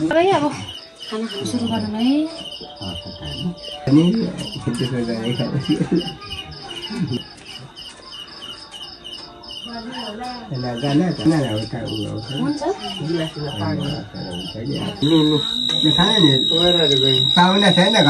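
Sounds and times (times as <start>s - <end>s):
insects chirping: 0.0s - 18.0s
people talking indistinctly: 0.0s - 18.0s.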